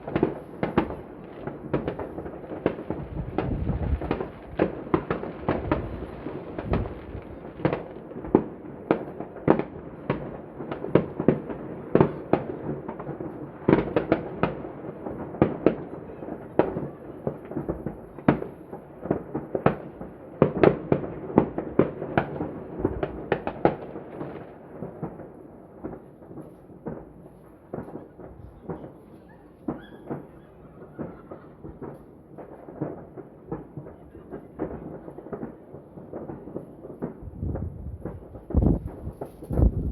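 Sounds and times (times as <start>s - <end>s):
fireworks bangs: 0.0s - 39.9s
fireworks rumble: 0.0s - 39.9s.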